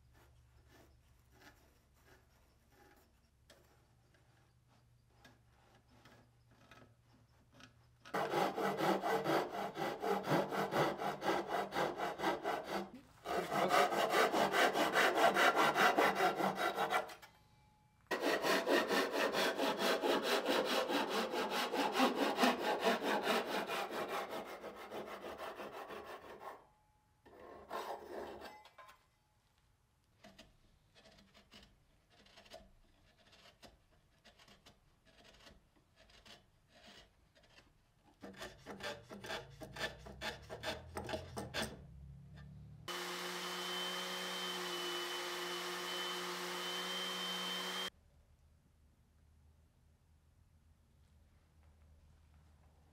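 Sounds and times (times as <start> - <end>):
hand saw cutting wood: 0.0 - 4.5, 5.1 - 17.4, 18.1 - 26.7, 27.3 - 28.6, 30.2 - 41.8, 42.4 - 47.9.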